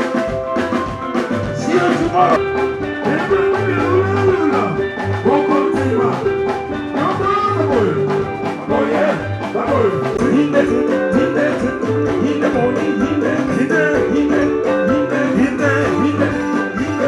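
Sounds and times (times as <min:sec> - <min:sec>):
live band with drums and guitars: 0:00.0 - 0:17.0.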